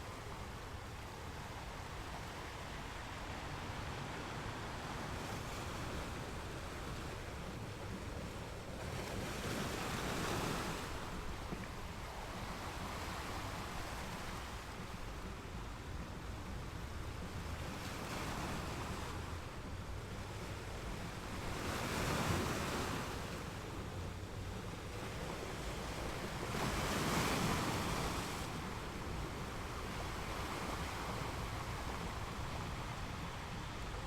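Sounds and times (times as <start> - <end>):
ocean waves breaking on beach: 0.0 - 34.0.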